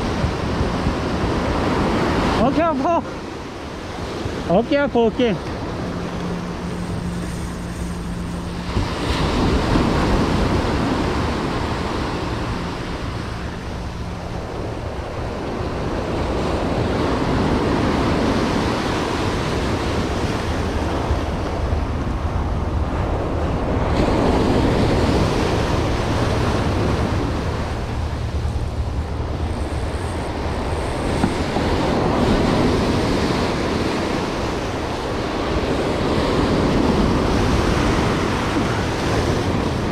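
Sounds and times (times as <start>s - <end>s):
ocean surf breaking on rocks: 0.0s - 39.9s.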